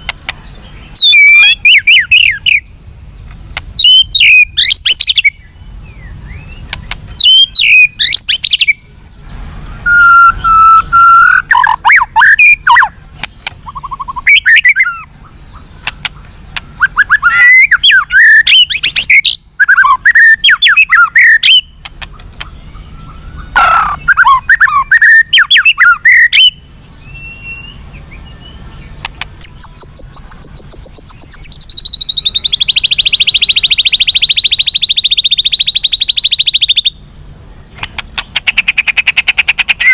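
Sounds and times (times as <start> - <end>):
songbird singing whistles: 0.0 - 2.7, 3.8 - 8.9, 9.6 - 13.0, 13.6 - 37.0, 37.6 - 39.9.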